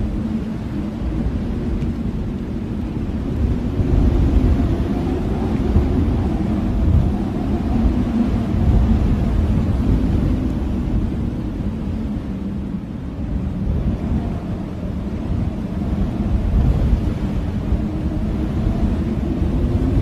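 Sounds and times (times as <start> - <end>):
blizzard wind rushing: 0.0 - 20.0.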